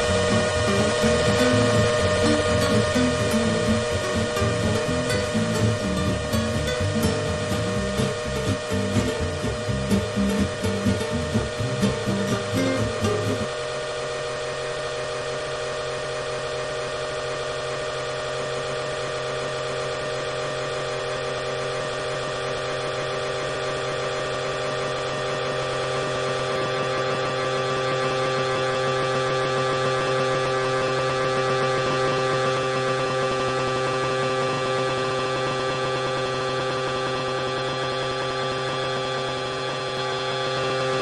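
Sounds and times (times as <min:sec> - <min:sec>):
tornado warning siren: 0:00.0 - 0:41.0.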